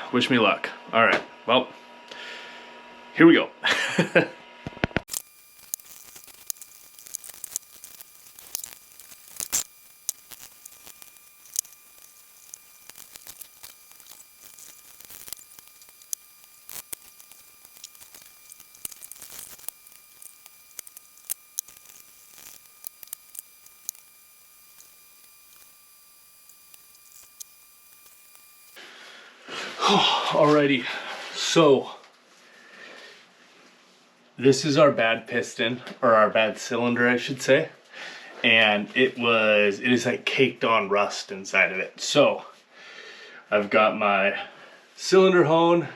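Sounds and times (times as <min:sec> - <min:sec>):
faint steady hum: 0:05.1 - 0:45.9.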